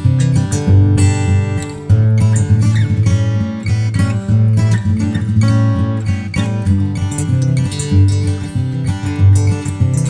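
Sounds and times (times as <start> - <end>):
flamenco style acoustic guitar: 0.0 - 10.0.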